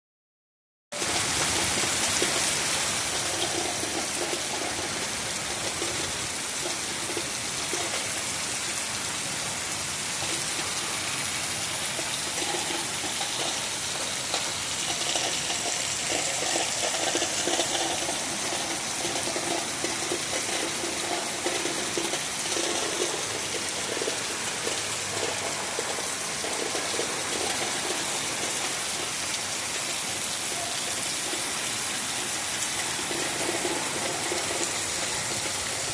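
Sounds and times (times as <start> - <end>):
torrential rain: 0.9 - 35.9.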